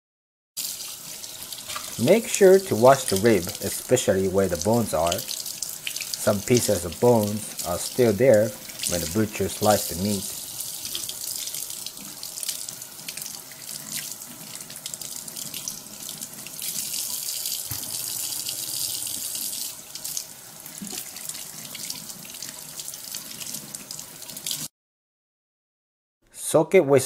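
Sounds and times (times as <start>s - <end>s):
faucet running into sink: 0.6s - 24.7s.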